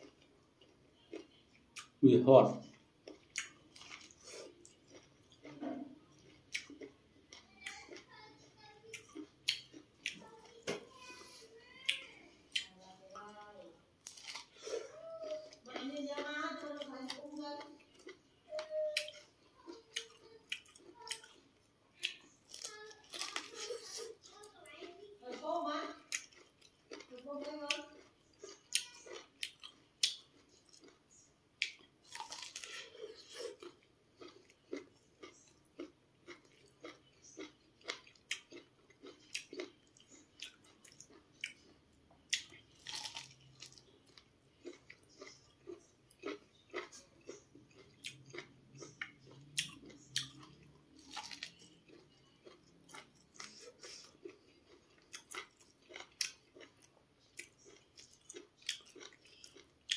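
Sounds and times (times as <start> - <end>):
person chewing corn on the cob: 0.0 - 2.0, 2.6 - 10.6, 14.0 - 59.9.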